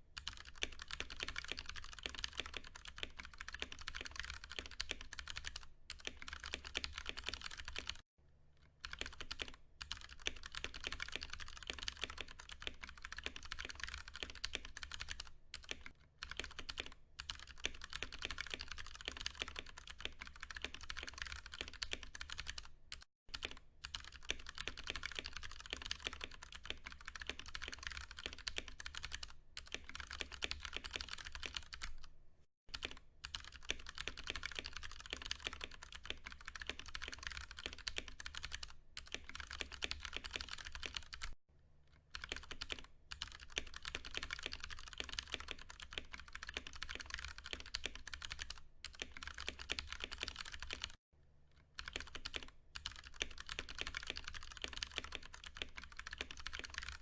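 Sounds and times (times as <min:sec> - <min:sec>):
fast mechanical keyboard typing: 0:00.2 - 0:08.0, 0:08.8 - 0:32.1, 0:32.7 - 0:41.4, 0:42.1 - 0:51.0, 0:51.8 - 0:57.0.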